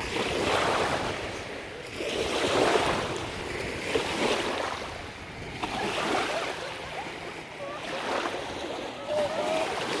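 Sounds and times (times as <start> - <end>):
sea waves breaking on beach: 0.0 - 10.0.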